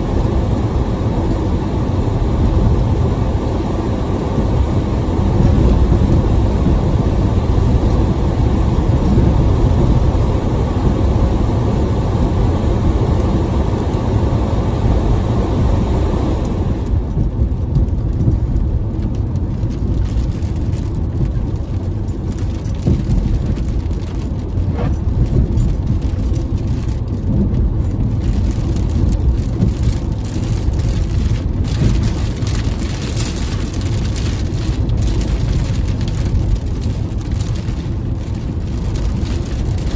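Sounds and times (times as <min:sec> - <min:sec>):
car road and engine rumble: 0:00.0 - 0:39.9
rain hiss: 0:00.0 - 0:39.9.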